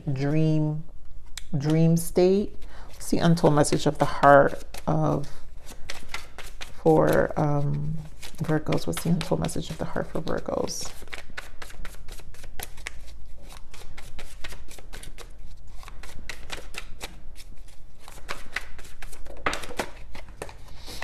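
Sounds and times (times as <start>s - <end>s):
cards being shuffled: 2.5s - 21.0s.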